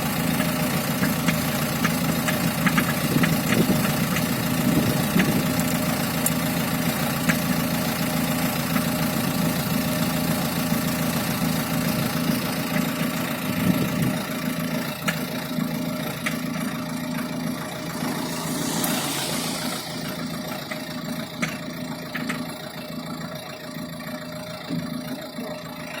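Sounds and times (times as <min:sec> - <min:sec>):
small diesel engine knocking: 0:00.0 - 0:18.9, 0:20.0 - 0:26.0.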